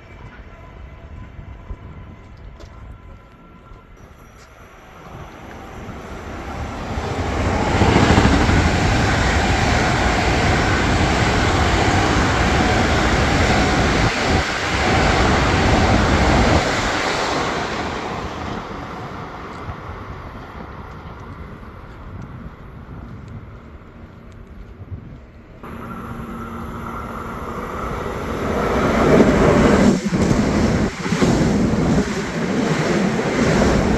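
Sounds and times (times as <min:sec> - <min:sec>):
train passing at speed: 0:00.0 - 0:24.0, 0:25.3 - 0:33.9.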